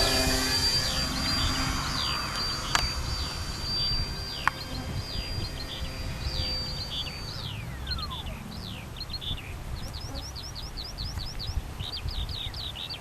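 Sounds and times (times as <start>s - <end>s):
thin steady high tone: 0.0s - 11.6s
birds whistling and chirping: 0.0s - 13.0s
wind rumble on microphone: 0.0s - 13.0s.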